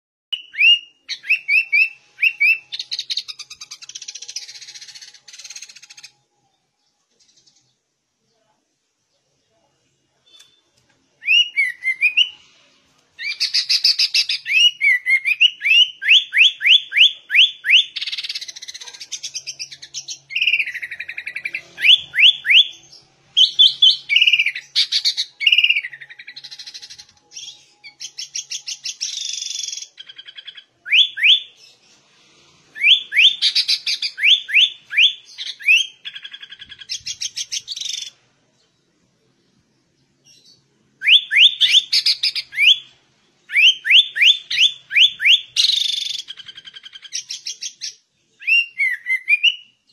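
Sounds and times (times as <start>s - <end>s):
bird singing whistled notes: 0.3s - 6.2s, 11.2s - 12.4s, 13.2s - 31.6s, 32.8s - 38.2s, 40.4s - 49.9s.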